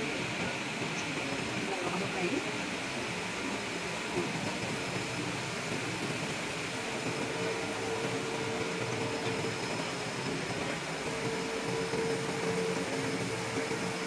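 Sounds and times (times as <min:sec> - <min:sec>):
mechanical running noise with hiss: 0:00.0 - 0:14.0
mid-pitched whine: 0:00.0 - 0:14.0.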